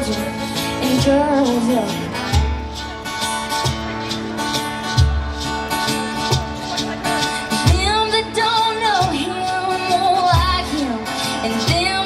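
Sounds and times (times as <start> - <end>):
country band playing: 0.0 - 12.0.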